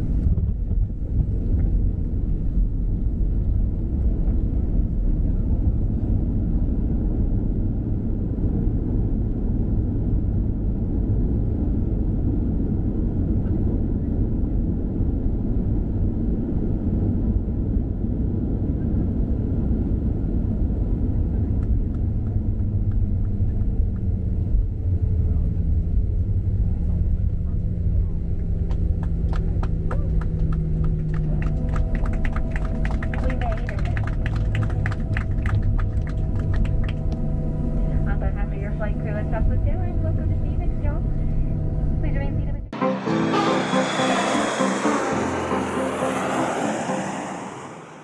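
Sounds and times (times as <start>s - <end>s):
low steady hum: 0.0s - 42.8s
airliner cabin rumble: 0.0s - 48.0s.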